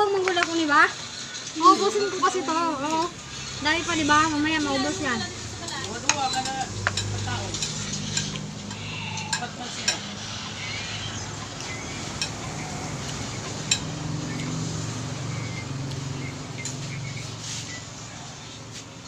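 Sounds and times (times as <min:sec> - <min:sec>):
utensils clinking on dishes: 0:00.8 - 0:18.8.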